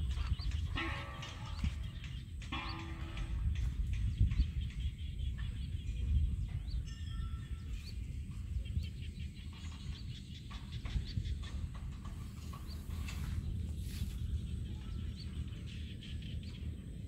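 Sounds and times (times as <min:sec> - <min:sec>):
birds chirping: 0:00.0 - 0:17.0
wind on microphone: 0:00.0 - 0:17.0.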